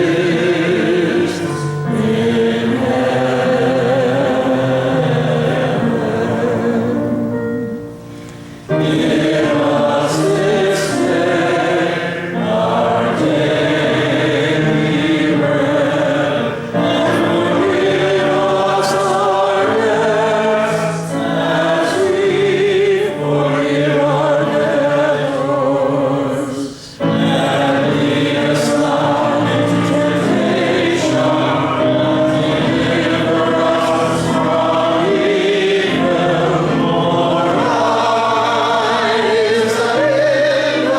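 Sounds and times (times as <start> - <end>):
group singing a hymn: 0.0 - 40.9.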